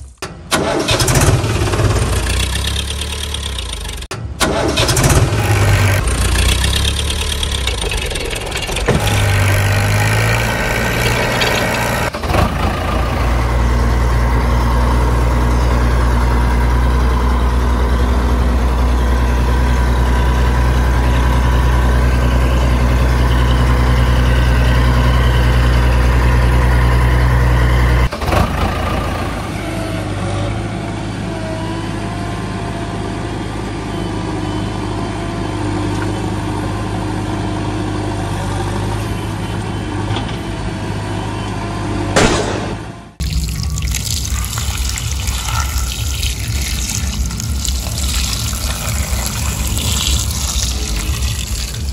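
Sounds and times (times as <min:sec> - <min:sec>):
vehicle engine running: 0:00.8 - 0:39.9, 0:44.3 - 0:51.9.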